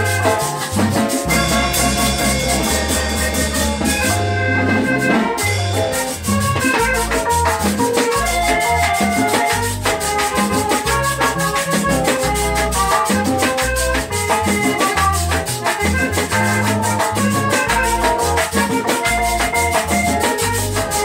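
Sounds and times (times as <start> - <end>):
accordion melody: 0.0 - 21.0
electric guitar: 0.0 - 21.0
low bass notes: 0.0 - 21.0
scraper rhythm: 0.0 - 21.0
timbales and drums: 0.0 - 21.0.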